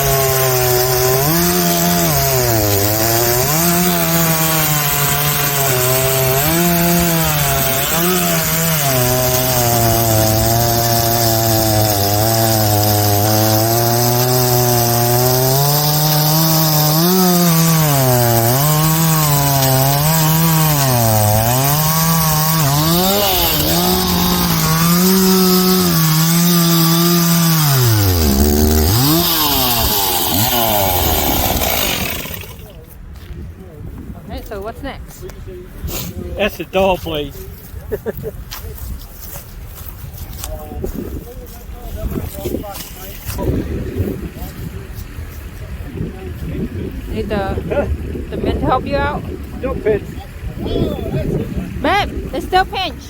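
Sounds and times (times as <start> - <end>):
chainsaw cutting wood: 0.0 - 32.8, 42.0 - 45.7, 46.4 - 53.0.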